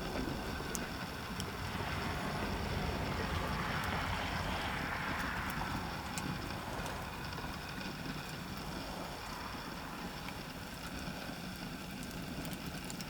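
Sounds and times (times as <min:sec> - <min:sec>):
broad whoosh of noise: 0:00.0 - 0:12.4
campfire flames rushing: 0:00.0 - 0:13.0
fire crackling: 0:00.0 - 0:13.0.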